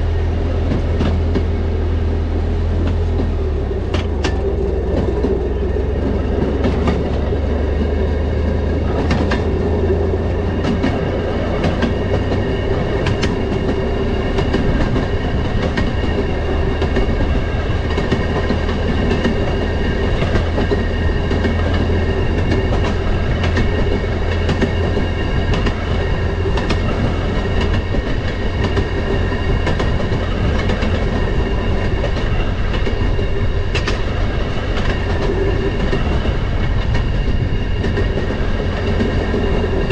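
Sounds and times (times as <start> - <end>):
railroad motorcar engine rumble: 0.0 - 39.9
wheels clicking over rail joints: 2.6 - 39.9.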